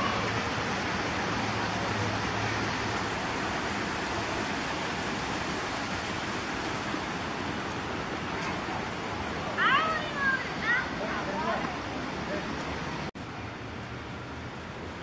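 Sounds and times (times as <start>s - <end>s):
flowing water in a stream: 0.0s - 15.0s.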